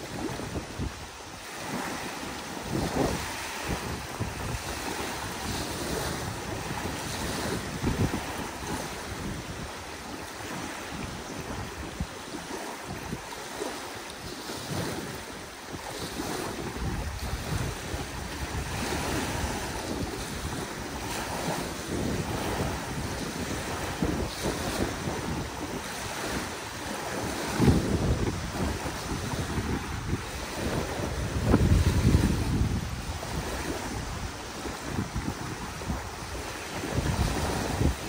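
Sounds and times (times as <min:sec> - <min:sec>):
small waves breaking on shore: 0:00.0 - 0:38.0
wind buffeting microphone: 0:00.0 - 0:38.0.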